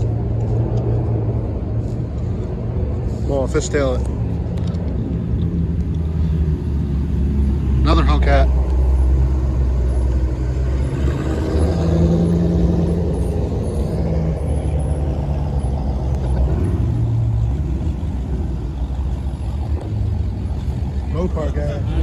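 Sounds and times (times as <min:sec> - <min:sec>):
car engines exhaust rumble: 0:00.0 - 0:22.0.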